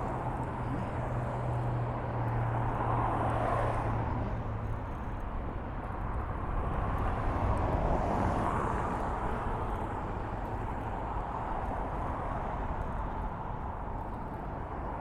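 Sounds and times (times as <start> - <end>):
passing vehicles: 0.0 - 15.0.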